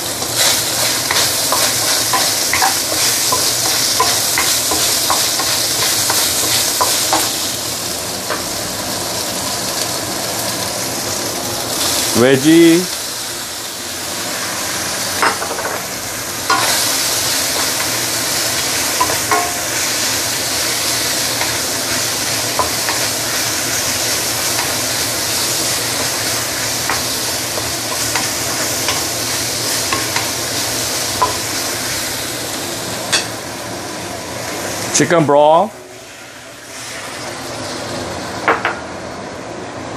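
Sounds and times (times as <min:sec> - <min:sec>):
cabbage sizzling in wok: 0:00.0 - 0:39.9.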